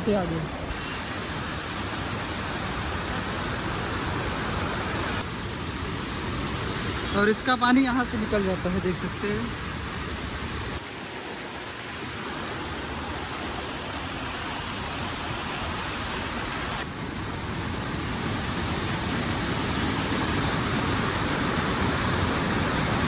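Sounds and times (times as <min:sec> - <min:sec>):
water rushing over boulders: 0:00.1 - 0:23.0.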